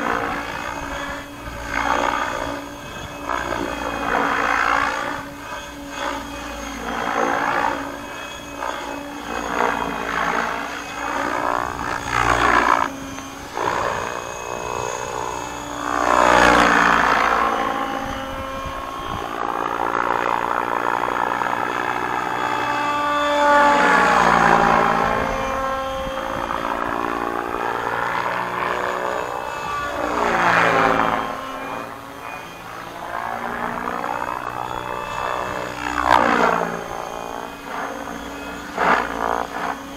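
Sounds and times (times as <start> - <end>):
model helicopter buzzing drone: 0.0 - 39.9.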